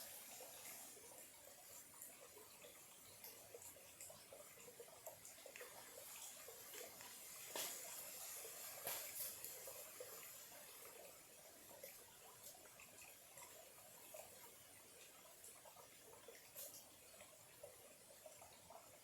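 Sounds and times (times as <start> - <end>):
faint stream trickling: 0.0 - 19.0
water ticks: 0.0 - 19.0.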